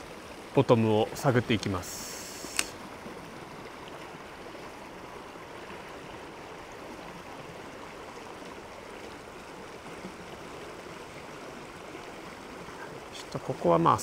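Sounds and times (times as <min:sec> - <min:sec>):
mountain stream flowing: 0:00.0 - 0:14.0.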